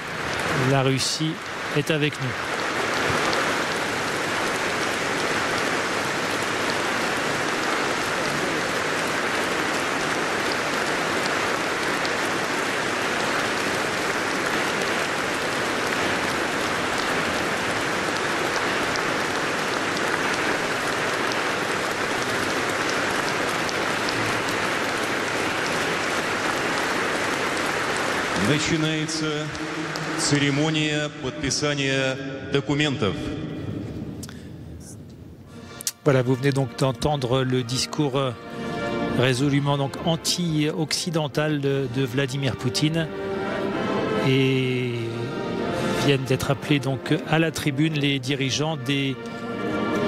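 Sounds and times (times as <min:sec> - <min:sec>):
audience applauding: 0:00.0 - 0:32.0, 0:35.8 - 0:50.0.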